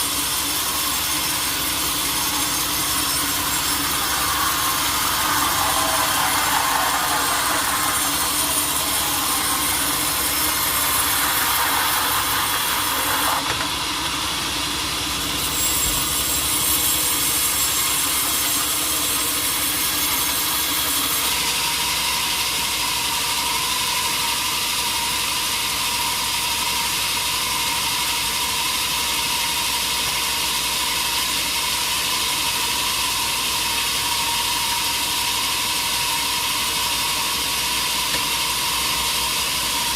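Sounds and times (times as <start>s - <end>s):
saw cutting through log: 0.0s - 39.9s
sawmill machinery running: 0.0s - 39.9s
steady mechanical whine: 0.0s - 39.9s.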